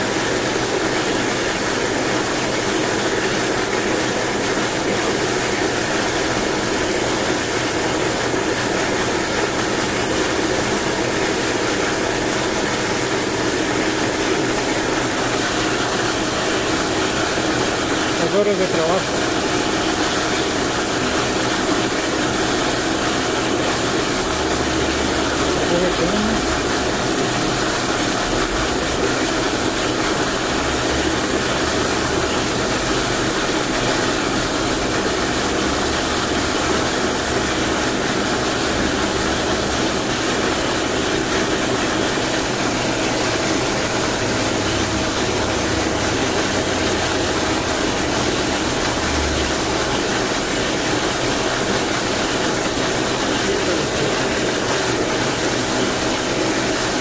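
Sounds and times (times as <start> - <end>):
electric water pump humming: 0.0 - 57.0.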